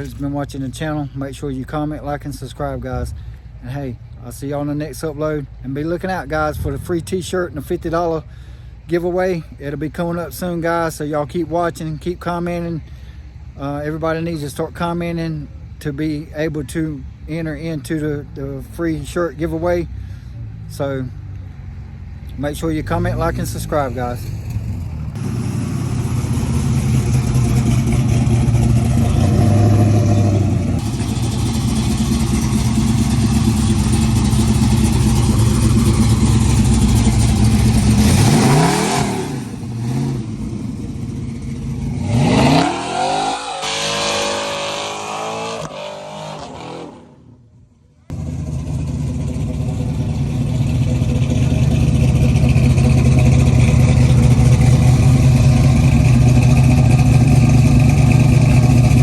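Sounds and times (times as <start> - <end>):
truck engine revving and idling: 0.0 - 59.0.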